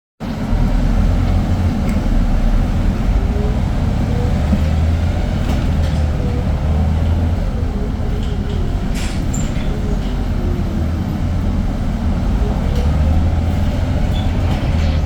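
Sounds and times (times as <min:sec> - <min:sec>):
diesel bus engine drone: 0:00.2 - 0:15.0.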